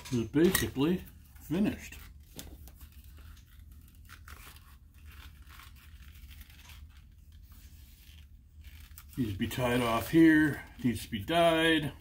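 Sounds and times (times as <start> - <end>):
leather sheath rustling and scraping: 0.1 - 11.8.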